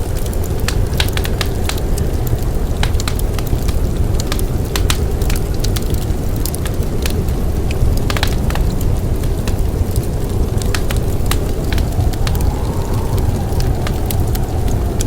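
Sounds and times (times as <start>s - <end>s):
storm wind rumbling: 0.0s - 15.0s
wood fire crackling and popping: 0.0s - 15.0s.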